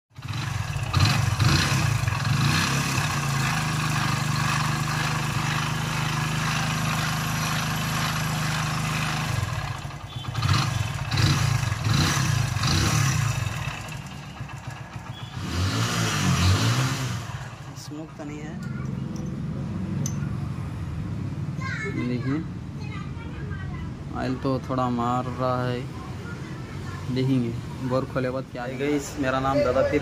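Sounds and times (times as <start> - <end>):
motorcycle engine idling and revving: 0.1 - 30.0.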